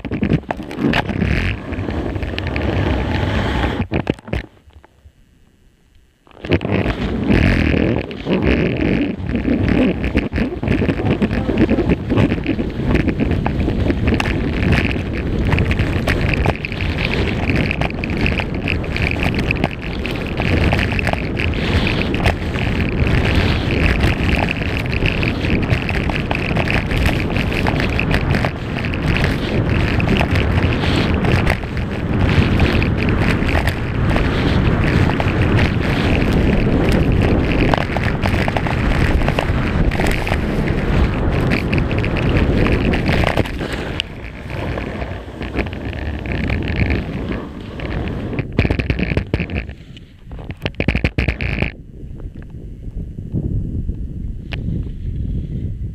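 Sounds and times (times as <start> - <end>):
skis scraping over snow: 0.0 - 4.0, 6.3 - 51.7
wind buffeting microphone: 6.4 - 55.9.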